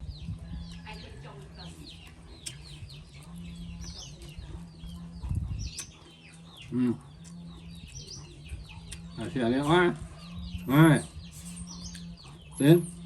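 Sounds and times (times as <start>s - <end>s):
birds chirping rapidly: 0.0s - 13.0s
steady low hum: 0.0s - 13.0s.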